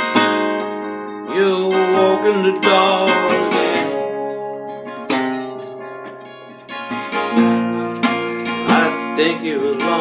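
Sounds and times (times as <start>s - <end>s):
acoustic guitar strummed: 0.0s - 10.0s.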